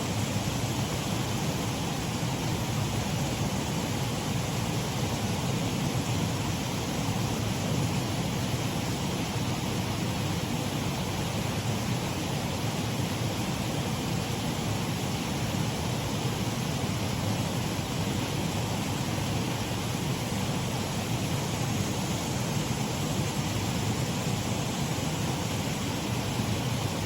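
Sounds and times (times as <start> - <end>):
water rushing over waterfall: 0.0 - 27.0.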